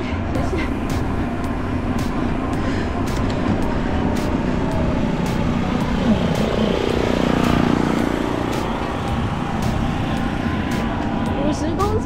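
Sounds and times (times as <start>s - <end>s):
road noise: 0.0s - 12.0s
vehicle engine rising: 0.0s - 12.0s
wind rushing: 0.0s - 12.0s.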